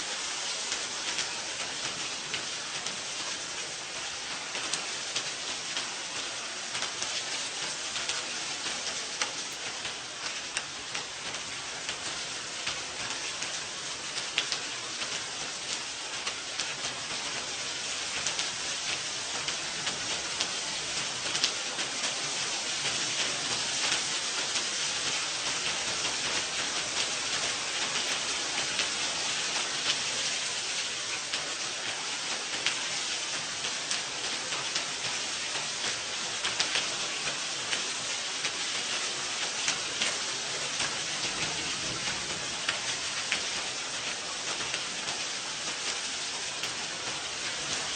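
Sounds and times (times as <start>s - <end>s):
light rain falling: 0.0s - 47.9s
raindrops ticking on surfaces: 0.0s - 47.9s.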